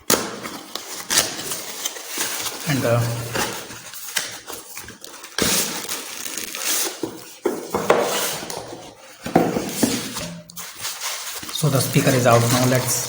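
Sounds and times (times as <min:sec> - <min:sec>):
cardboard and plastic crinkling: 0:00.0 - 0:13.0.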